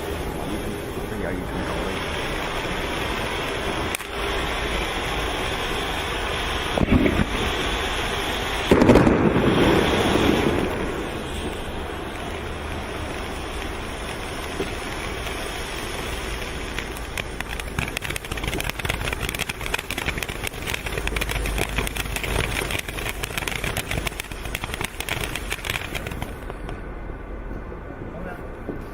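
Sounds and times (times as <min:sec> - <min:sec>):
firework crackling: 0:00.0 - 0:27.4
firework fountain hissing: 0:00.0 - 0:27.4.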